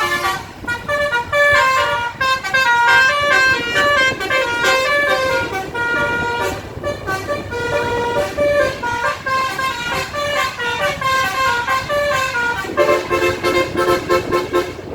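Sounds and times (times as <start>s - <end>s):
multi-tone bus air horn melody: 0.0s - 14.9s.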